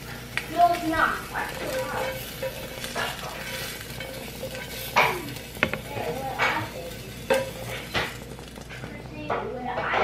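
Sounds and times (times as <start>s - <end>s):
pan sizzling faintly: 0.0s - 10.0s
spatula scraping frying pan: 0.0s - 10.0s
utensil clinking on pan: 1.3s - 9.5s.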